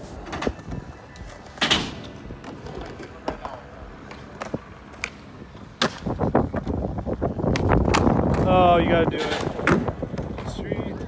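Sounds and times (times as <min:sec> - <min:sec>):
skateboard clacks: 0:00.0 - 0:11.0
skateboard wheels rumbling: 0:00.0 - 0:11.0.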